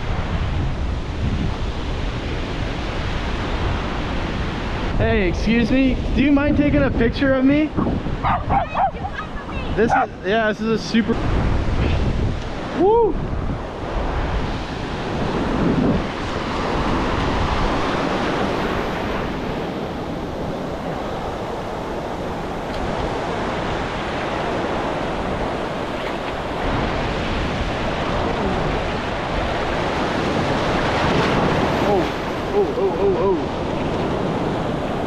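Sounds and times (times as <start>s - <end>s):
ocean surf washing over sand: 0.0s - 35.0s
wind buffeting microphone: 0.0s - 35.0s.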